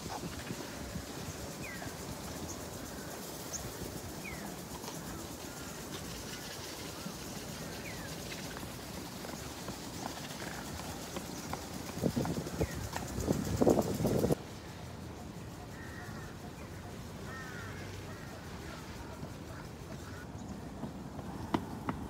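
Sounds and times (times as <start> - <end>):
park background noise: 0.0 - 22.0.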